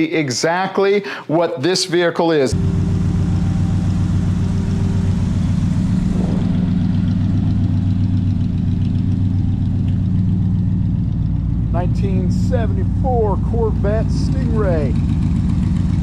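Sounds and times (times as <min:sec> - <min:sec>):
car engine idling: 0:02.5 - 0:16.0.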